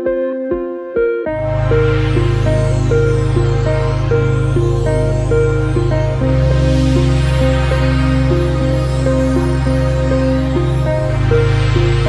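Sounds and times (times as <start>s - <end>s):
low electronic drone: 1.3s - 12.0s.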